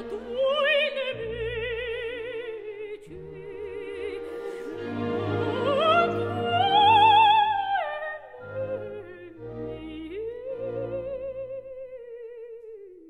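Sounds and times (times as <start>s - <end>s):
orchestral chords: 0.0s - 11.4s
operatic soprano singing: 0.0s - 13.0s.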